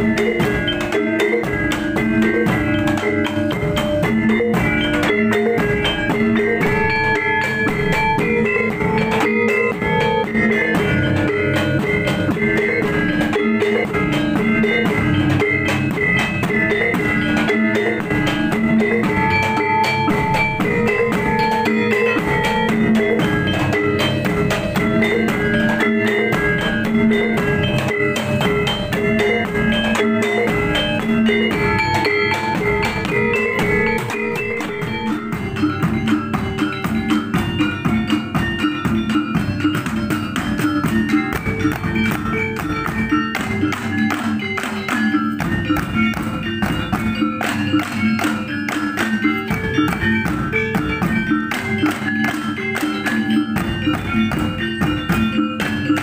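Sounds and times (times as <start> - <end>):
barrel drum and hand drums beat: 0.0 - 56.0
metallophones ringing melodic notes: 0.0 - 56.0.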